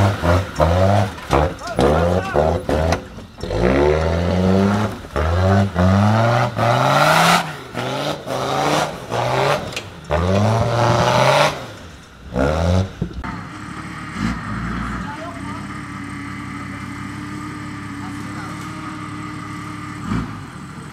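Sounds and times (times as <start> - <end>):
diesel engine revving: 0.0 - 20.9.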